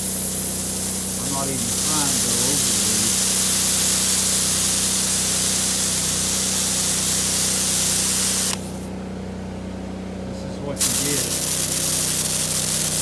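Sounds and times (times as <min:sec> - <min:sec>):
pump engine humming: 0:00.0 - 0:08.9, 0:10.7 - 0:13.0
spray hissing: 0:00.0 - 0:08.9, 0:10.8 - 0:13.0.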